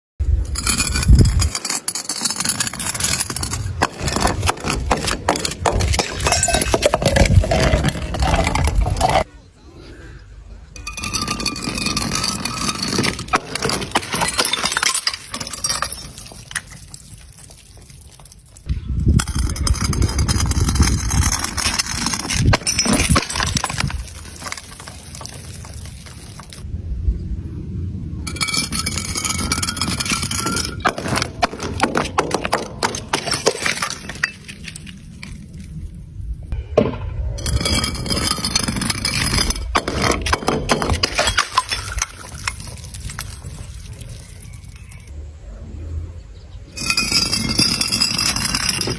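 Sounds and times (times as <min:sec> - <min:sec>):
glass and beads scattering: 0:00.4 - 0:09.3, 0:10.8 - 0:26.6, 0:28.3 - 0:35.8, 0:37.4 - 0:45.1, 0:46.8 - 0:48.9
glass bottle shattering: 0:00.6 - 0:09.2, 0:10.8 - 0:18.6, 0:19.4 - 0:26.6, 0:28.3 - 0:35.7, 0:37.4 - 0:45.1, 0:46.8 - 0:48.9.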